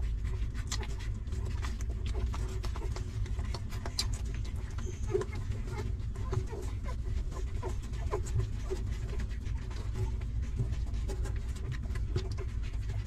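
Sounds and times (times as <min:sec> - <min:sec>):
puppies suckling clicks and smacks: 0:00.0 - 0:13.0
steady low rumble: 0:00.0 - 0:13.0.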